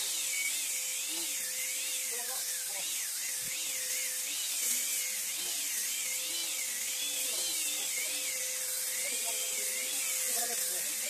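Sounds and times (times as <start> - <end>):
disc sanders on wood: 0.0 - 11.0.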